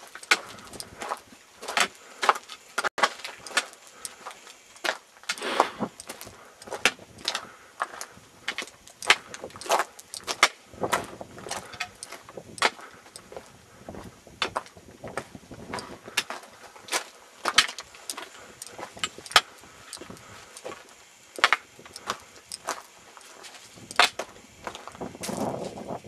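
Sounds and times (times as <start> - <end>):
footsteps crunching on gravel: 0.0 - 26.0.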